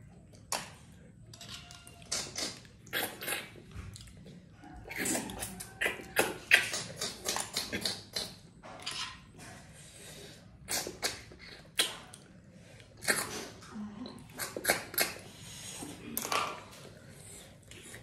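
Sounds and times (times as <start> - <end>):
slurping and sucking snails: 0.4 - 8.5, 9.4 - 18.0.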